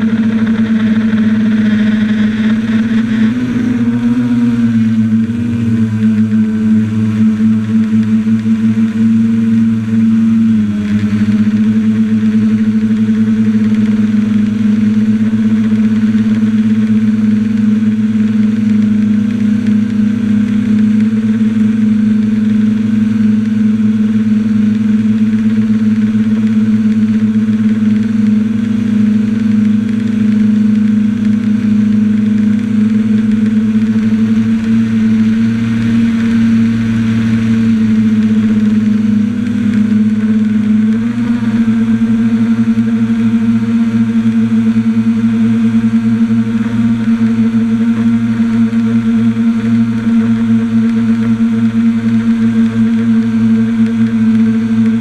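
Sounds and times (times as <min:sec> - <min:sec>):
quadcopter propellers humming: 0:00.0 - 0:55.0.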